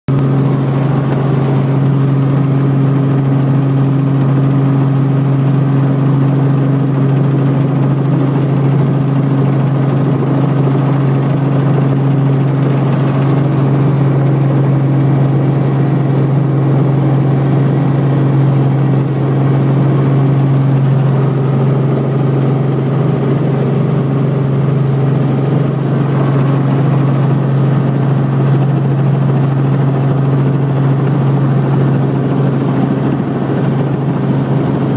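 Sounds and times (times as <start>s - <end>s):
helicopter drone from inside cabin: 0.1s - 34.9s.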